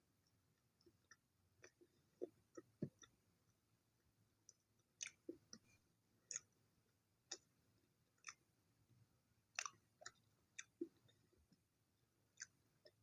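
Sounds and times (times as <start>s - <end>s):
chewing crunchy bread: 0.2s - 3.6s, 4.4s - 6.6s, 7.2s - 8.5s, 9.4s - 13.0s.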